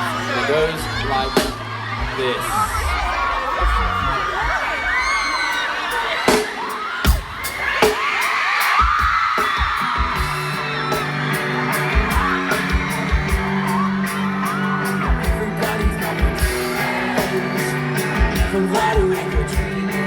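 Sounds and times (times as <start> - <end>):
live pop-rock band playing: 0.0 - 2.7, 5.0 - 20.0
crowd whooping and yelling: 0.0 - 20.0.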